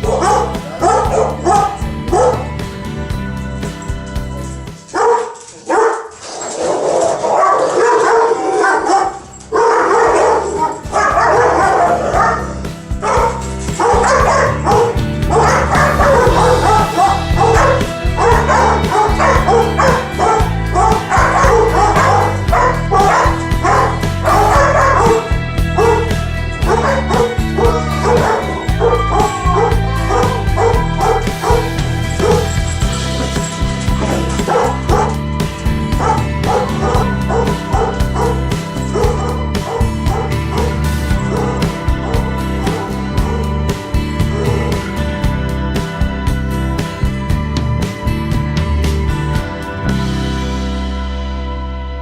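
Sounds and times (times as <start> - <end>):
dogs whining and yipping: 0.0 - 2.7, 3.6 - 45.1
background music: 0.0 - 52.0.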